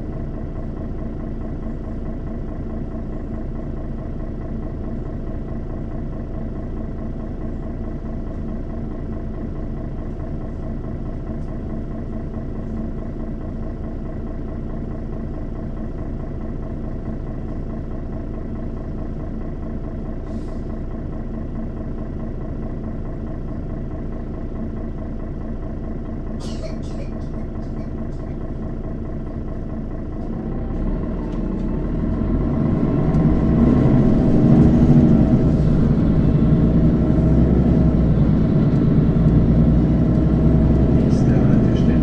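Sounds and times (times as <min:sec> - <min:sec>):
bus engine idling: 0:00.0 - 0:42.0.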